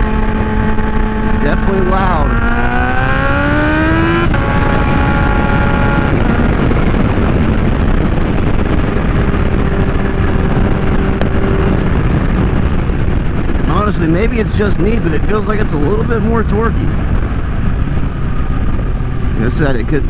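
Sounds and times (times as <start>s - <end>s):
motorcycle accelerating: 0.0s - 20.0s
wind and road noise: 0.0s - 20.0s.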